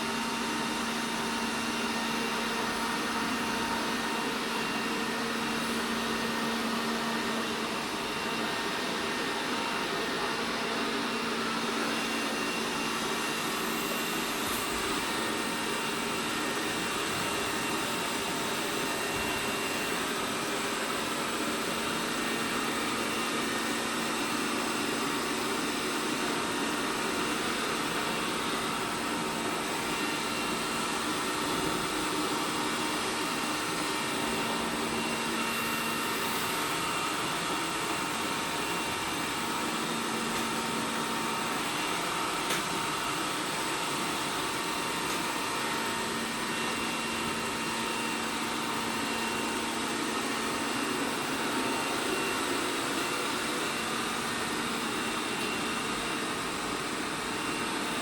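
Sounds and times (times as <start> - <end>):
robot vacuum cleaner whirring: 0.0 - 58.0.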